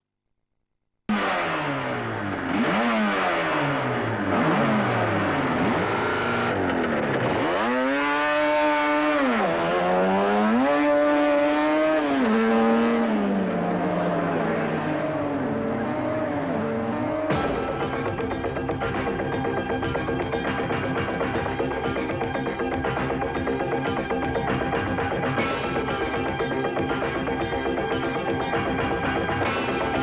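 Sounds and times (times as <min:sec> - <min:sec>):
racing motorcycle engines revving: 0:01.1 - 0:30.0.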